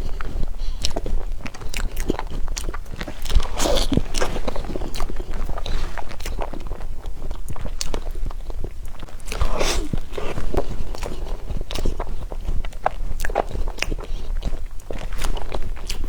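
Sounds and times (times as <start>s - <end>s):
soft chewing with mouth clicks: 0.0s - 16.0s.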